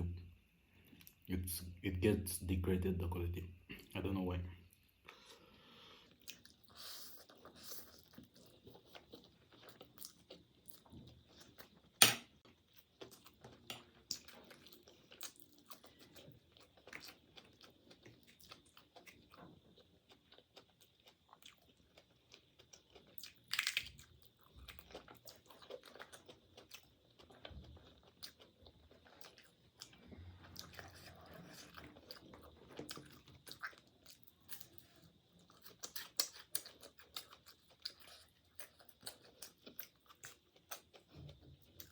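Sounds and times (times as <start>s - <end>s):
person chewing and crunching food: 5.0s - 41.9s.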